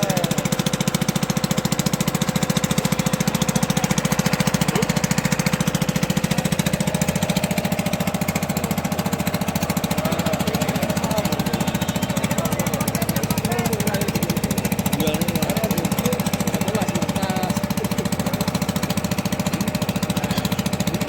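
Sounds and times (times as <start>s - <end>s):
engine chugging: 0.0s - 21.0s.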